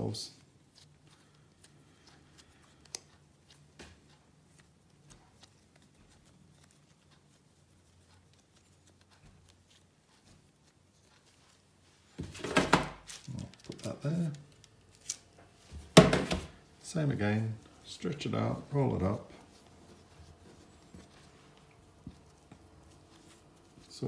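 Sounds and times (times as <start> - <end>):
faint room hum: 0.0 - 24.0
hands shaping bread dough: 0.0 - 24.0.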